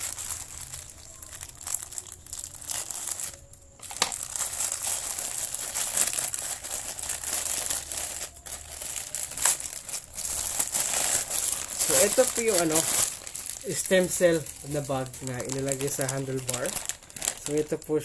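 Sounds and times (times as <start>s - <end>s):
plastic mailer bag crinkling: 0.0s - 18.0s
sharp plastic crackles: 0.0s - 18.0s.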